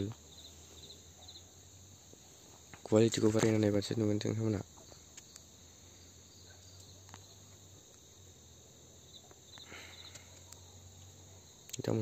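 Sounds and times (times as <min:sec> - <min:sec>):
faint low hum: 0:00.0 - 0:12.0
insect chirps: 0:00.0 - 0:12.0.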